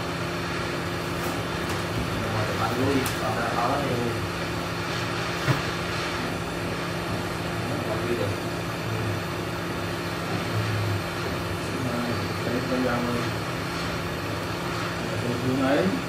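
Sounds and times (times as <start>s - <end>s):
hot-air station blowing: 0.0s - 16.0s.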